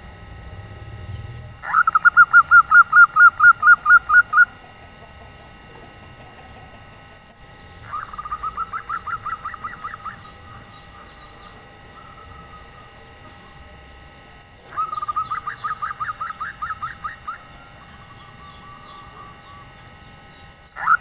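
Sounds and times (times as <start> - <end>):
dove rattling call: 0.3 - 21.0.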